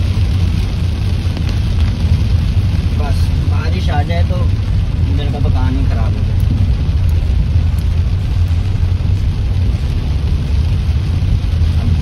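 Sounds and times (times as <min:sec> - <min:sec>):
car rumble on wet road: 0:00.0 - 0:12.0
rain on windscreen: 0:00.0 - 0:12.0.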